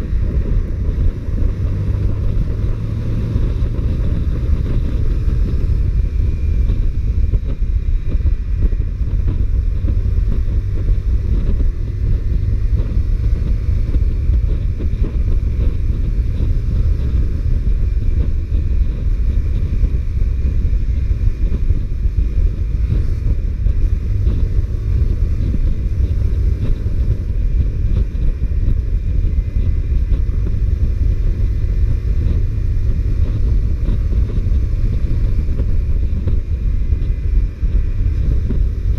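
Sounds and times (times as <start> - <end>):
motorcycle engine: 0.0 - 38.9
wind rush on microphone: 0.0 - 38.9.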